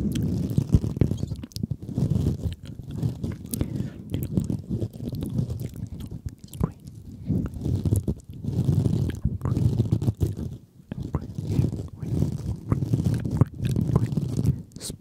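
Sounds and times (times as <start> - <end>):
soft low rumble: 0.0 - 14.8.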